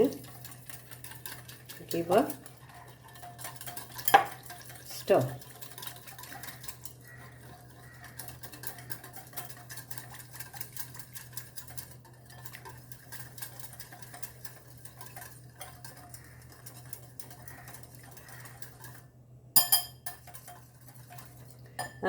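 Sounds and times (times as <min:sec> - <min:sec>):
spoon stirring in a bowl: 0:00.0 - 0:22.0.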